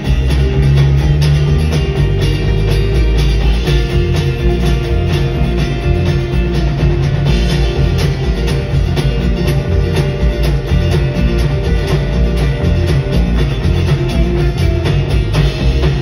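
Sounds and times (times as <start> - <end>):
drum kit beat: 0.0 - 16.0
electric and acoustic guitars: 0.0 - 16.0.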